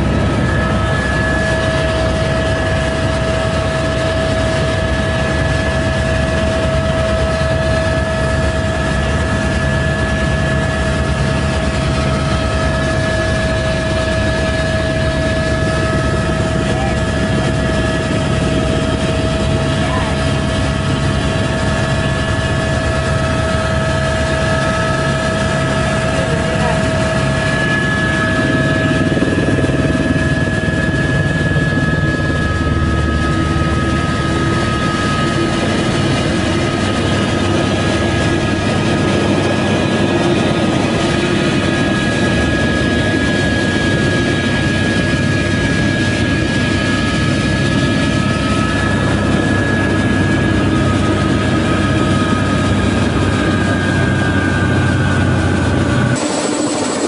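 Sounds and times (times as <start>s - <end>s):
helicopter rotor rumble: 0.0s - 57.0s
high turbine whine: 0.0s - 57.0s.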